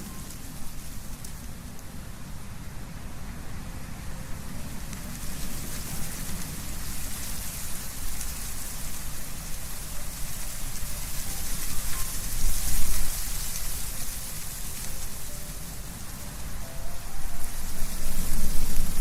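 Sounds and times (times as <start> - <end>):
leaves rustling: 0.0 - 19.0
wind blowing through trees: 0.0 - 19.0.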